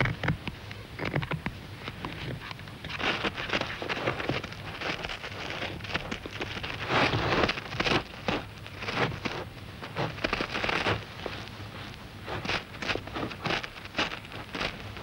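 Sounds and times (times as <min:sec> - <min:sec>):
dung ball rolling over sandy soil: 0:01.9 - 0:15.0.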